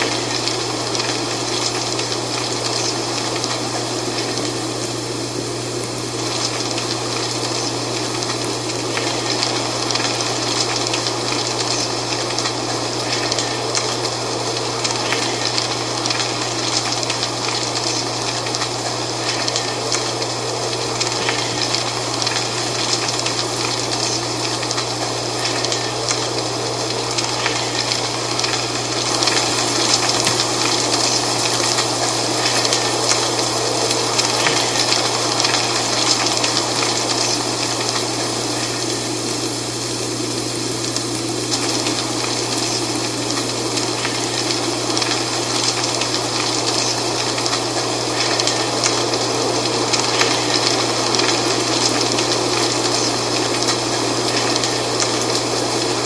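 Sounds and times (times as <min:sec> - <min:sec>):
dry leaves rustling in wind: 0:00.0 - 0:56.0.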